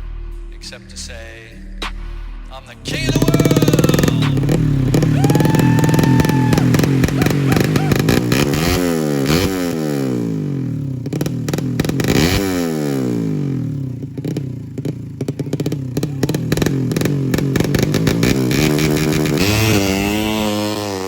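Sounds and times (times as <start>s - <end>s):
motorcycle engine revving: 2.9s - 21.0s.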